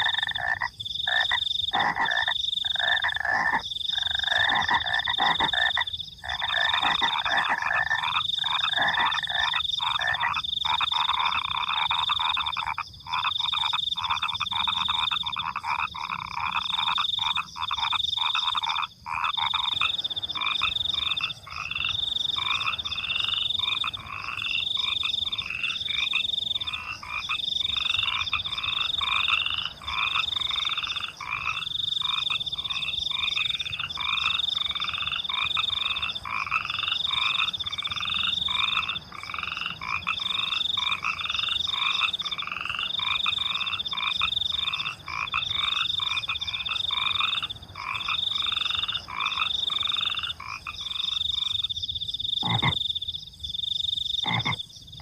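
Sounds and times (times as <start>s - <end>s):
cricket trill: 0.0s - 55.0s
frogs croaking: 0.0s - 55.0s.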